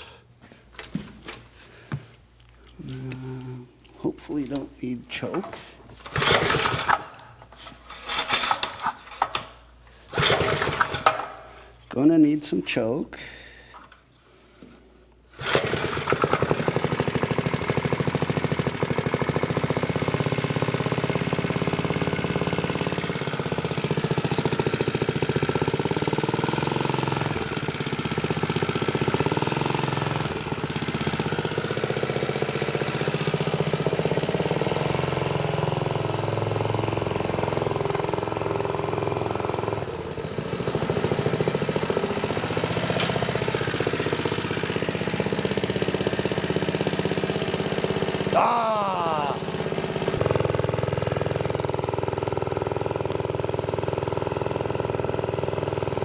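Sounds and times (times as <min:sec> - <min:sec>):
small engine starting and running: 0:06.0 - 0:11.8, 0:15.4 - 0:56.0.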